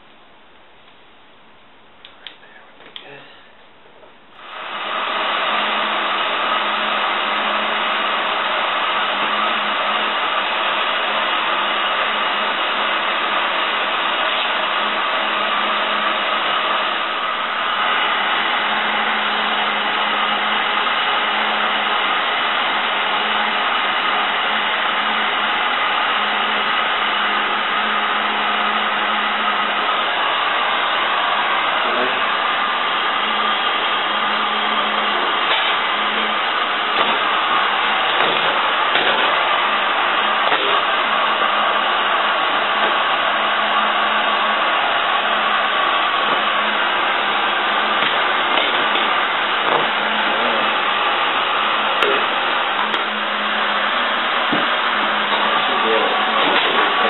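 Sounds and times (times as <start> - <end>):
heat gun blowing hot air: 4.4 - 57.0.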